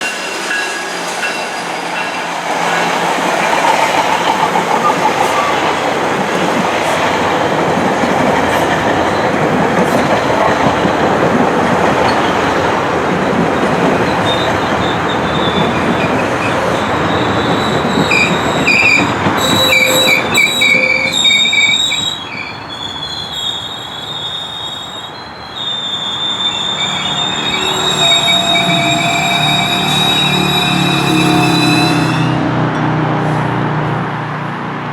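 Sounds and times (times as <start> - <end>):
train wheels rumbling on rails: 0.0 - 34.9
wheels squealing: 0.2 - 32.4.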